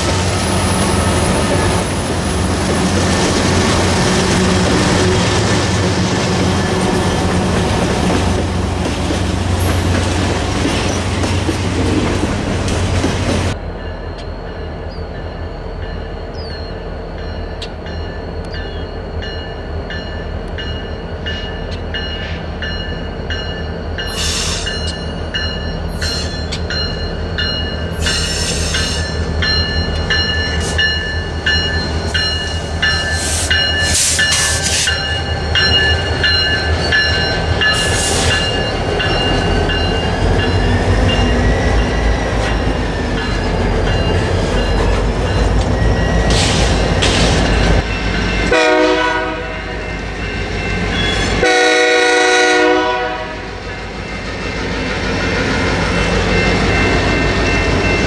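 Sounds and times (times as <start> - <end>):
diesel locomotives rumbling: 0.0 - 58.0.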